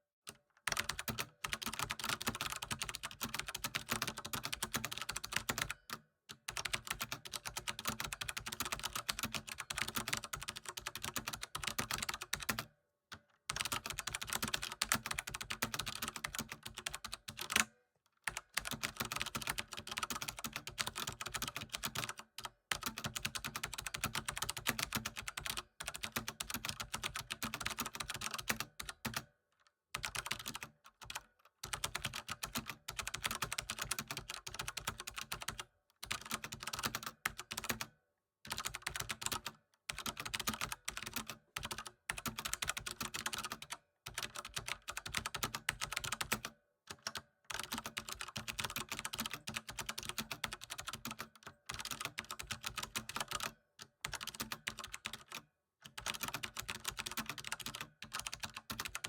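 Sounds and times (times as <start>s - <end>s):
computer keyboard typing: 0.3s - 17.7s, 18.3s - 29.3s, 30.0s - 37.9s, 38.5s - 59.0s.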